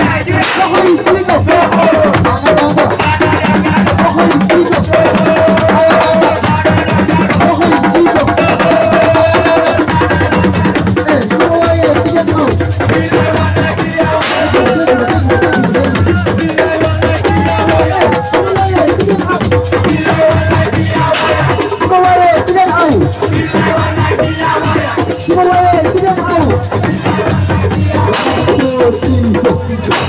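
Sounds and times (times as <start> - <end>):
fast dense drumming: 0.0 - 30.0.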